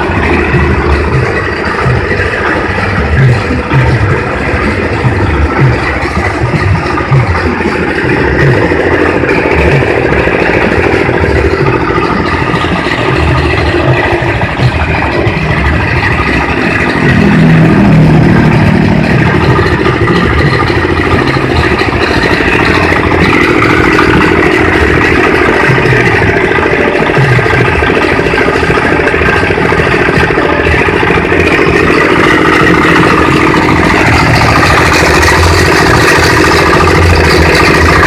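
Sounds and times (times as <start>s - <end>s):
feed chopper engine running: 0.0s - 38.0s.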